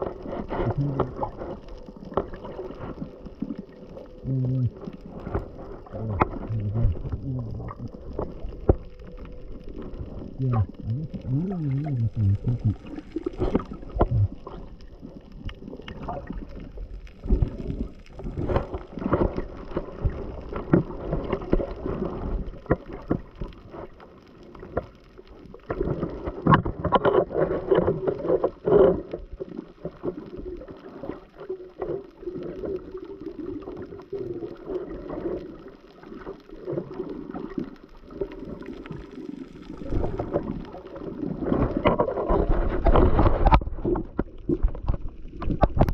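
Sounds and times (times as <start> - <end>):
water sloshing and bubbling underwater: 0.0 - 45.9.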